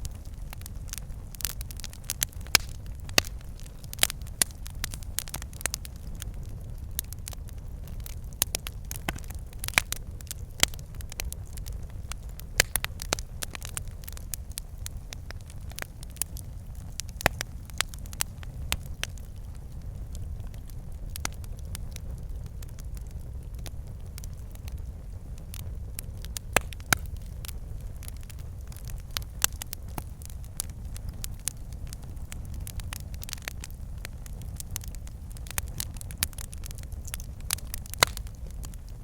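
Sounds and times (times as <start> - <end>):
logs crackling and popping: 0.0 - 39.0
low rumble of flames: 0.0 - 39.0.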